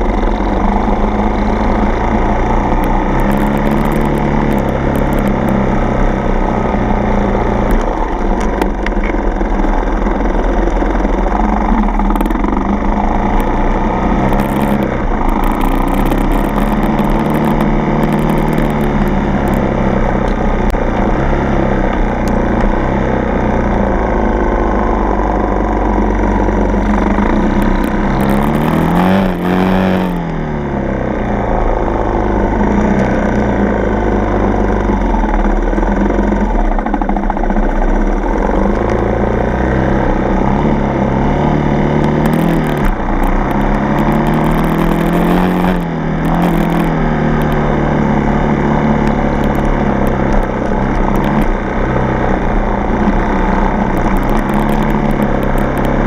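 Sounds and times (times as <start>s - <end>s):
dirt bike engine revving: 0.0s - 8.6s, 10.0s - 34.4s, 38.0s - 56.0s.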